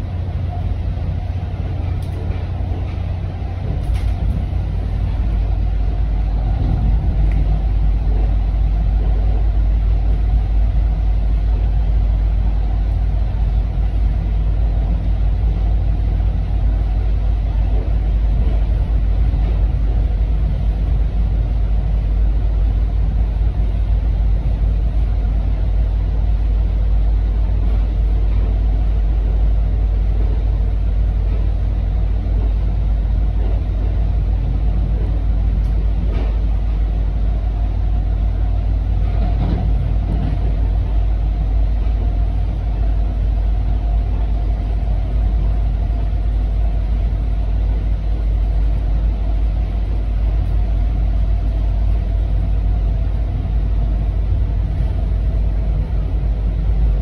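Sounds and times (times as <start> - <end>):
faint steady whine: 0.0 - 57.0
train rumble inside coach: 0.0 - 57.0.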